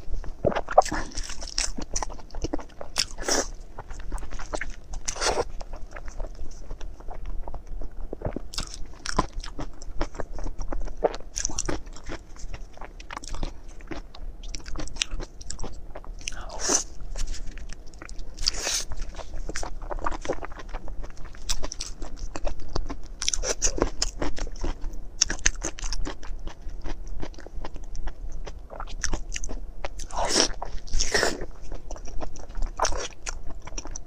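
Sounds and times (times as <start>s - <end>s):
person chewing with mouth clicks: 0.3s - 34.0s.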